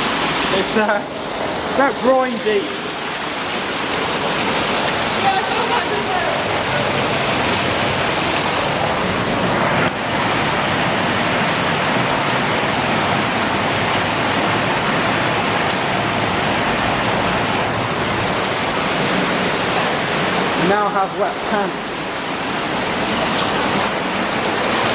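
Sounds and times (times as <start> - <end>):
cave stream water rushing: 0.0 - 24.9.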